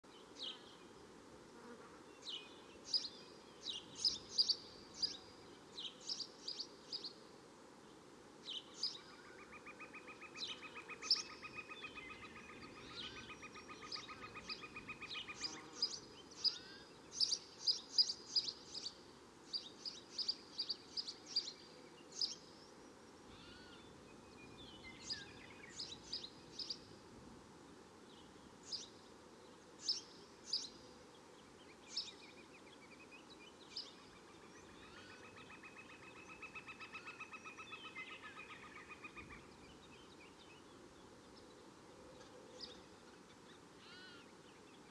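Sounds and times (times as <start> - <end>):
low steady background hiss: 0.0 - 44.9.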